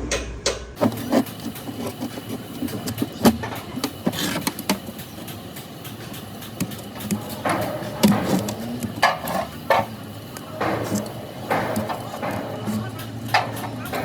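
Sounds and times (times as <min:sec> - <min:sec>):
metal clanks: 0:00.0 - 0:14.0
tools knocking and clicking: 0:00.0 - 0:14.0.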